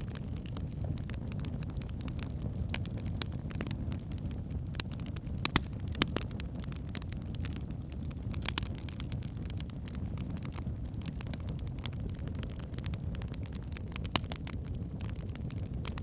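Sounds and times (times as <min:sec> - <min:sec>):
burning logs crackling and popping: 0:00.0 - 0:16.0
low rumble of flames: 0:00.0 - 0:16.0.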